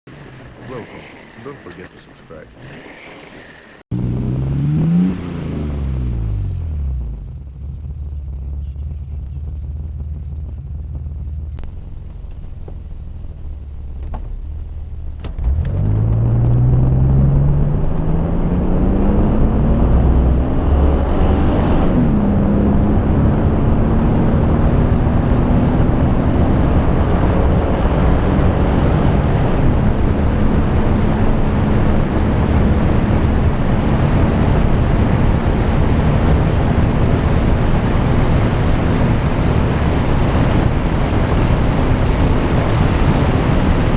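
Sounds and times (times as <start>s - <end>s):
car engine accelerating hard: 3.9s - 43.9s.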